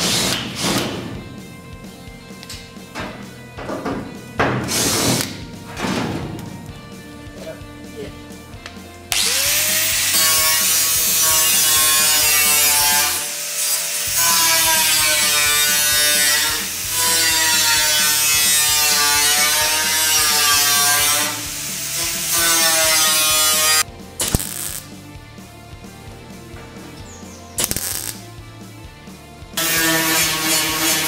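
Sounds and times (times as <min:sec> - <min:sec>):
angle grinder grinding metal: 0:00.0 - 0:24.9, 0:27.0 - 0:28.3, 0:29.6 - 0:31.0.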